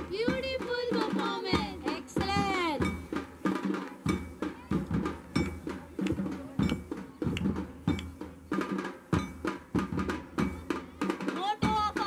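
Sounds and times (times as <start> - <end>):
drums beating steady rhythm: 0.0 - 12.0.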